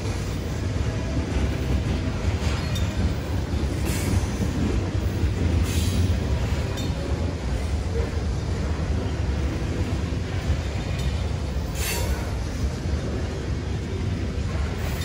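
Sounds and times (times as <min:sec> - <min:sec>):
freight train rumbling past: 0:00.0 - 0:15.0
train cars clanking: 0:00.0 - 0:15.0.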